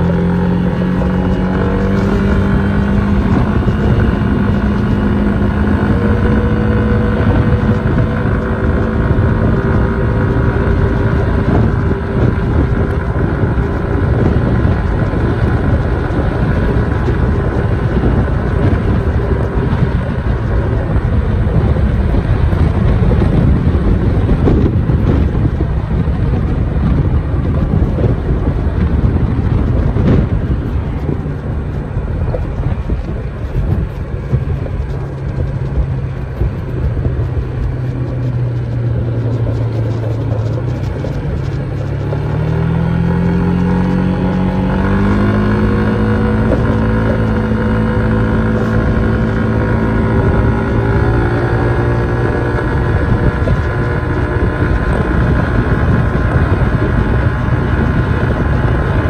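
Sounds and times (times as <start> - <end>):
scooter engine running: 0.0 - 59.0
wind noise on microphone: 0.0 - 59.0.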